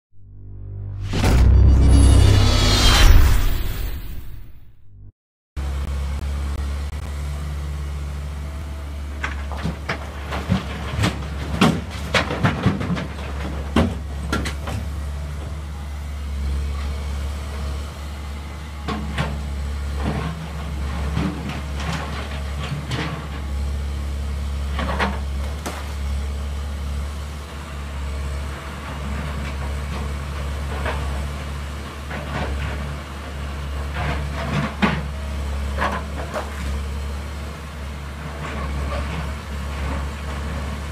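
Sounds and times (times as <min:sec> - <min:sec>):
diesel engines running: 0:05.6 - 0:40.9.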